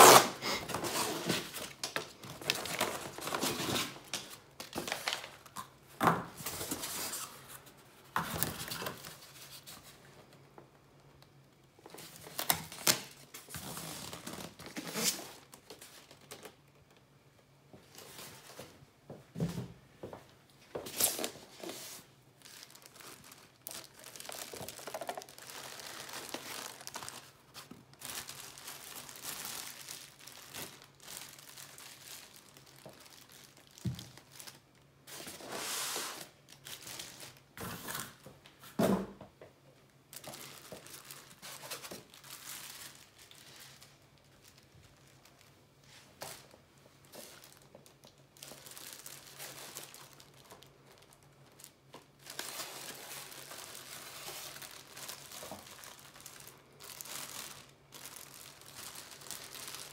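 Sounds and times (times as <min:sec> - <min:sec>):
plastic bags crinkling: 0:00.0 - 0:10.1, 0:11.8 - 0:17.0, 0:20.8 - 0:35.4, 0:36.2 - 0:38.2, 0:40.1 - 0:59.9.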